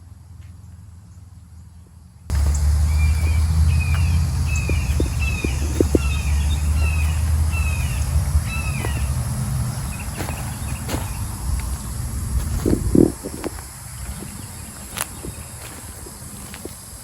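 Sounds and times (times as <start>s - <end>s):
steady low rumble: 0.8s - 17.0s.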